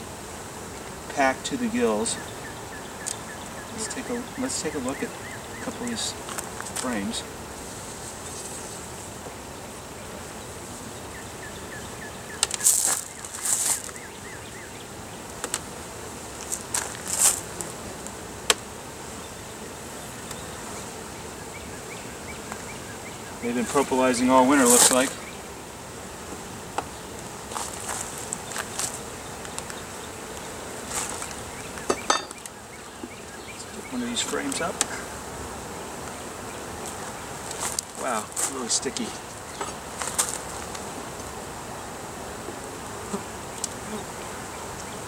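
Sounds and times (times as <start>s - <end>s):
bees buzzing: 0.0s - 45.0s
hive tool scraping wooden frames: 0.3s - 9.5s, 12.3s - 14.2s, 15.2s - 41.5s.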